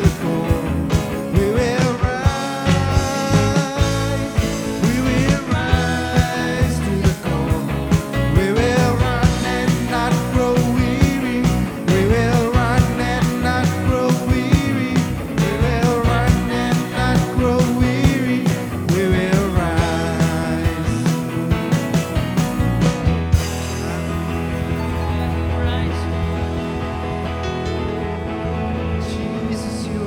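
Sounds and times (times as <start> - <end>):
drums keeping a steady beat: 0.0 - 27.9
worship band music: 0.0 - 30.0.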